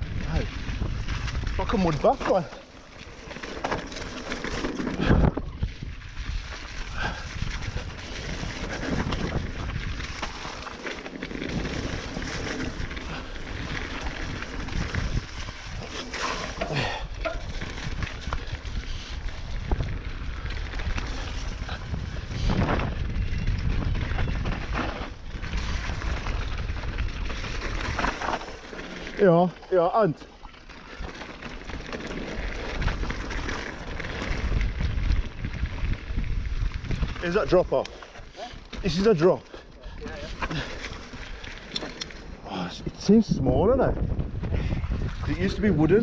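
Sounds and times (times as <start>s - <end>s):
wind buffeting microphone: 0.0s - 2.5s, 4.8s - 28.3s, 30.9s - 41.5s, 42.1s - 46.0s
bike rattling on dirt trail: 0.0s - 46.0s.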